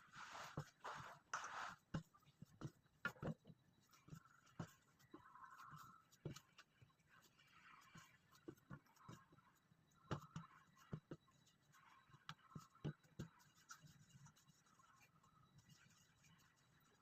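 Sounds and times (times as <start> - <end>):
soft scratching: 0.0 - 17.0.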